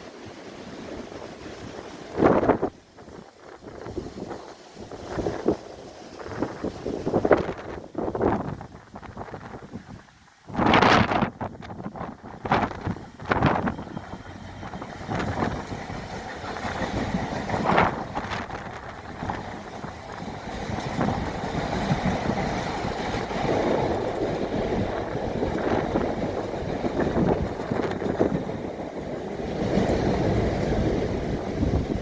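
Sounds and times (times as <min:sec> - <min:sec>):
steady outdoor noise: 0:00.0 - 0:32.0
wind buffeting microphone: 0:00.0 - 0:32.0.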